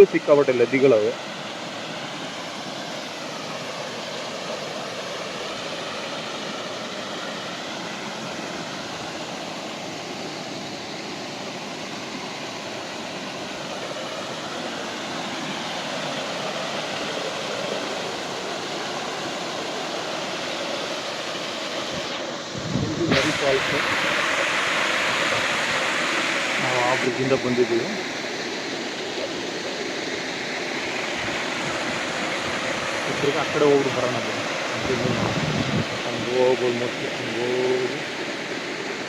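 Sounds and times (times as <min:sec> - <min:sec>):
waterfall and river water rushing: 0:00.0 - 0:39.0.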